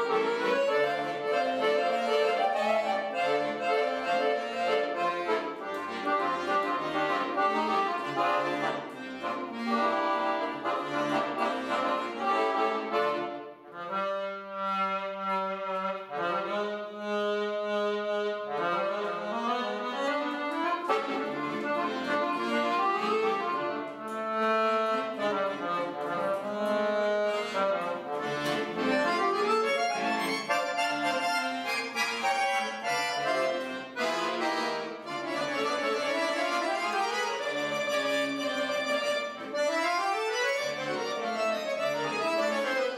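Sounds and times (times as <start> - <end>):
piano accordion playing: 0.0 - 42.9.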